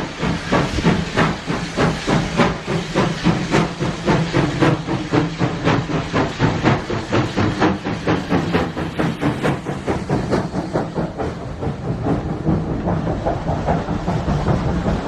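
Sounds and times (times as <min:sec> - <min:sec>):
steady steam hiss: 0:00.0 - 0:15.0
steam locomotive exhaust beats: 0:00.0 - 0:15.0.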